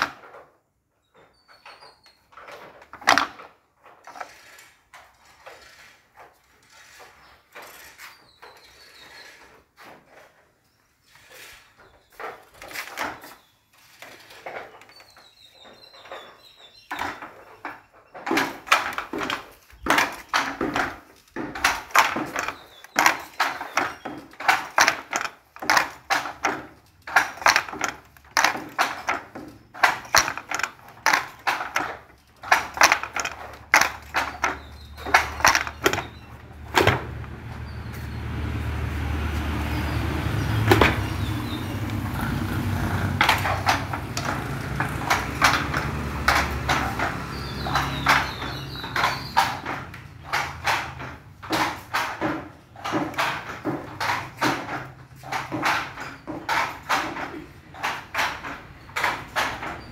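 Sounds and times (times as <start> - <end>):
handloom wooden clacks: 0.0 - 59.9.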